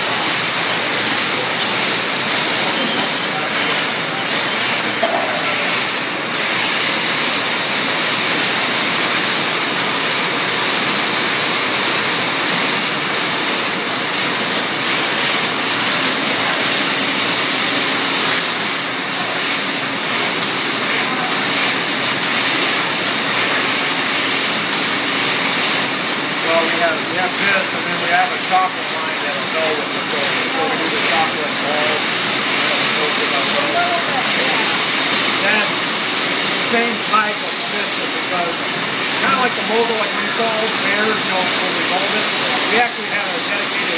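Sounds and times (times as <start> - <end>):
conveyor machinery running: 0.0 - 43.9.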